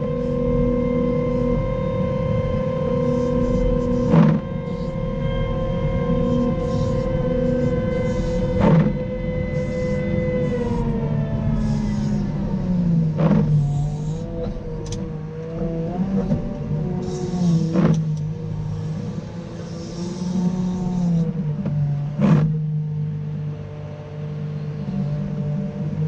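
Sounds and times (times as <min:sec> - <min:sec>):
wheel loader diesel engine: 0:00.0 - 0:22.6.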